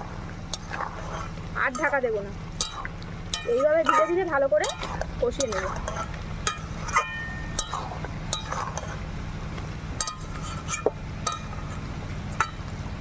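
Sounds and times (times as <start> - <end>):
metal spatula scraping a pan: 0.0 - 9.3, 9.9 - 12.6
steady low hum: 0.0 - 13.0.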